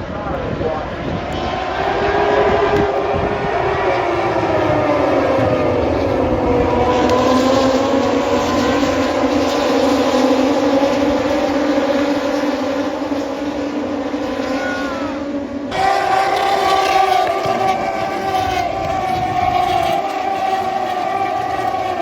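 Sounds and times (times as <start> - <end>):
racing motorcycle engines revving: 0.0 - 22.0.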